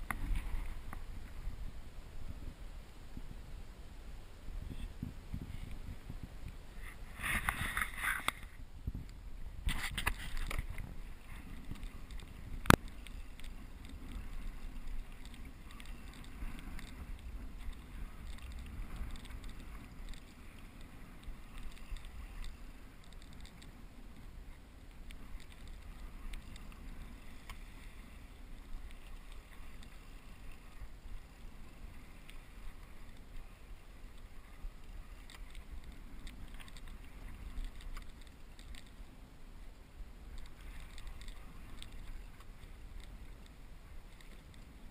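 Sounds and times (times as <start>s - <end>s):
water lapping around kayak: 0.0s - 44.9s.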